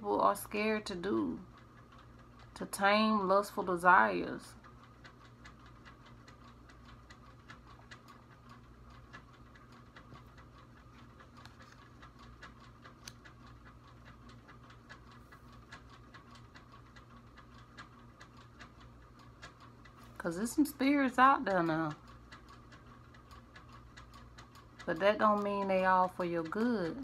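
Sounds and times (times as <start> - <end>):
clock ticking: 0.0 - 27.0
low room hum: 0.0 - 27.0.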